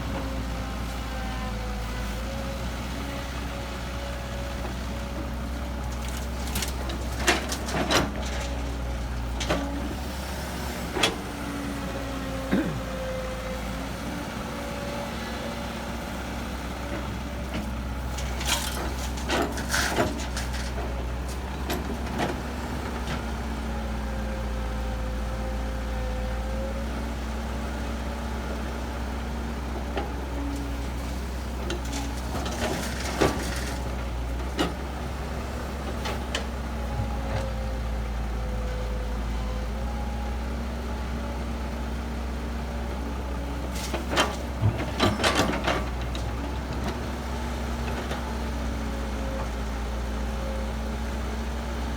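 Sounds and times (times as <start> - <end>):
diesel machinery engine running: 0.0 - 51.9.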